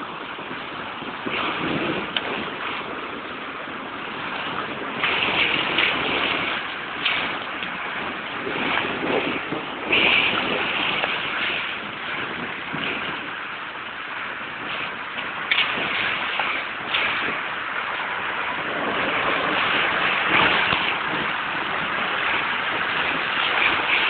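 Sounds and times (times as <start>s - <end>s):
rushing rainwater: 0.0s - 24.0s.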